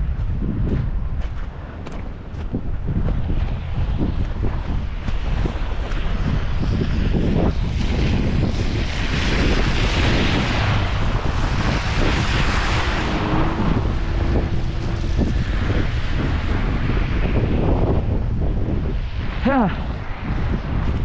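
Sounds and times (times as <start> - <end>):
blizzard wind buffeting microphone: 0.0 - 21.0.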